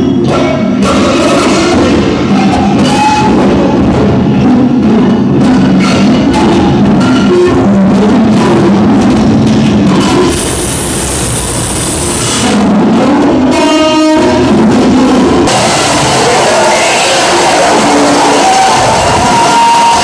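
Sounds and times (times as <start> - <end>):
experimental sound collage: 0.0 - 20.0.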